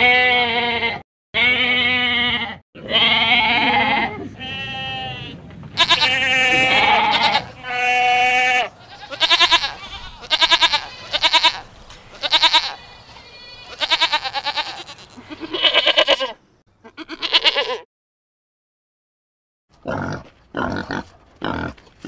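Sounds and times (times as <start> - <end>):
goat bleating: 0.0 - 17.8.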